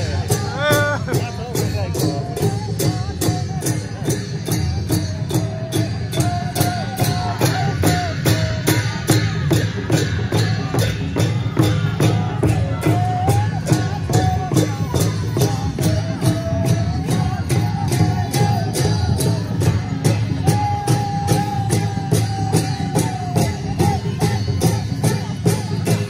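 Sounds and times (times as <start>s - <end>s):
drum and cymbal beat: 0.0s - 26.0s.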